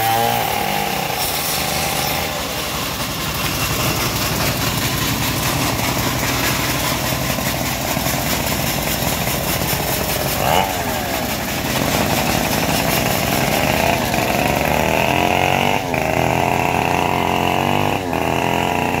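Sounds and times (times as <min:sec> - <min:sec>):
sawmill engine running: 0:00.0 - 0:19.0.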